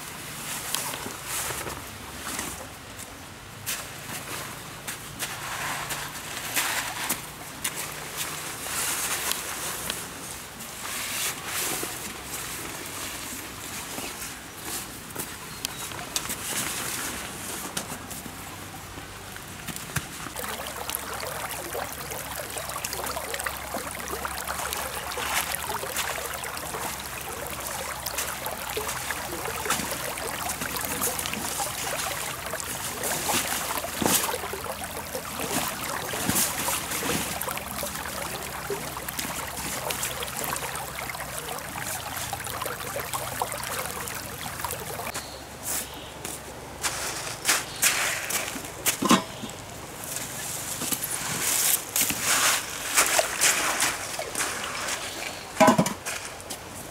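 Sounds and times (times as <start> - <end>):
creek water trickling: 0.0 - 45.5, 46.8 - 56.9.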